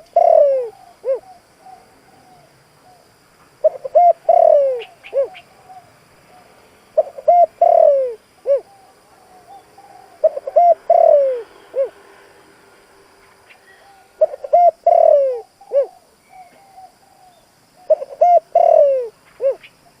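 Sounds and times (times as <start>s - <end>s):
dove cooing: 0.0s - 12.1s, 13.5s - 20.0s.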